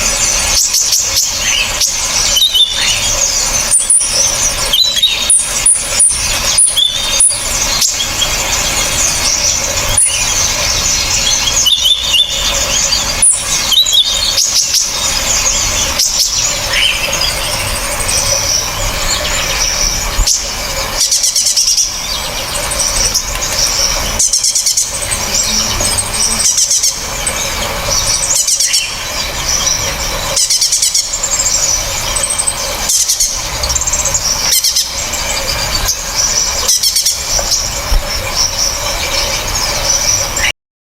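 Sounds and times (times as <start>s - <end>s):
songbirds chirping and trilling: 0.0s - 40.5s.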